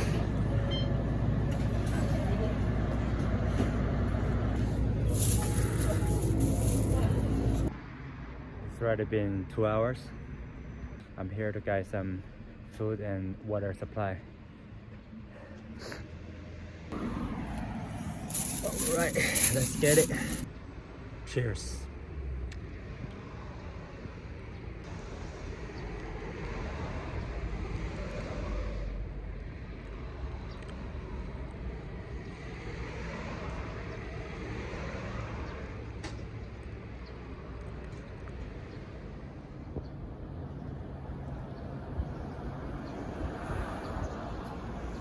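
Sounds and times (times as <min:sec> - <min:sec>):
vehicles passing: 0:00.0 - 0:09.3, 0:16.2 - 0:45.0
road noise rumble: 0:00.0 - 0:11.4, 0:14.3 - 0:45.0.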